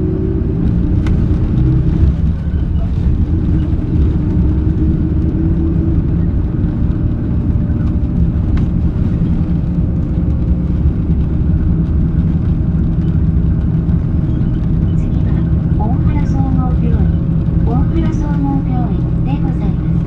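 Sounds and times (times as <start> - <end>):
bus diesel engine drone: 0.0 - 20.0
faint whine: 0.0 - 20.0.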